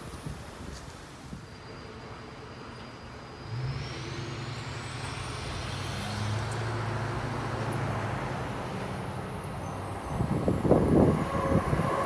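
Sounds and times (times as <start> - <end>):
train approaching with low hum: 0.0 - 12.0.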